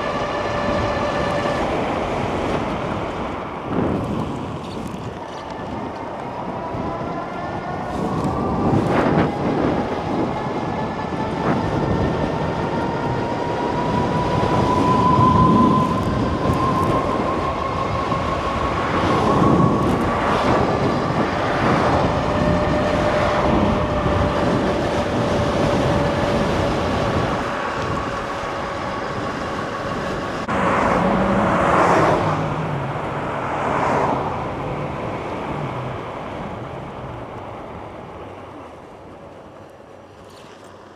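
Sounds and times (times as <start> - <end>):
wind rushing over microphone: 0.0 - 39.4
road noise: 0.0 - 40.9.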